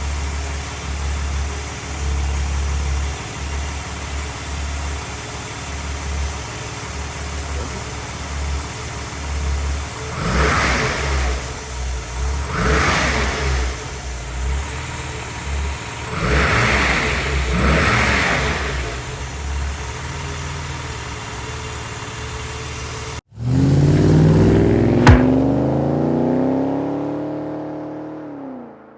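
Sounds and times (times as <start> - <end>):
car engine idling and revving: 0.0 - 28.9.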